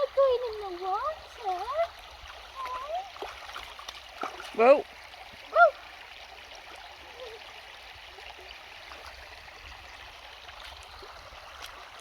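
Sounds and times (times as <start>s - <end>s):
stream babbling over stones: 0.0s - 12.0s.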